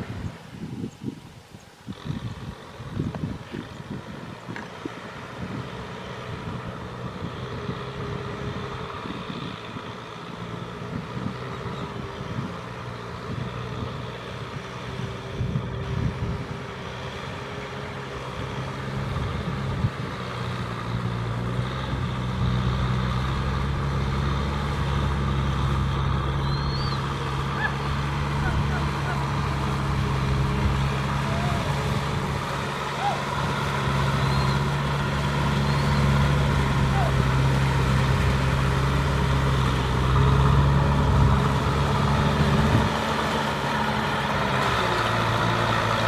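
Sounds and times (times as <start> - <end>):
tractor diesel engine under load: 0.0 - 46.0.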